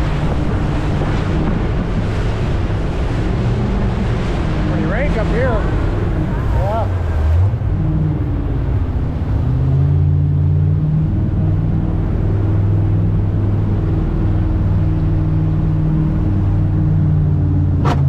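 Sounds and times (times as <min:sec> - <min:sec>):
boat engine droning: 0:00.0 - 0:18.0
water rushing against hull: 0:00.0 - 0:18.0.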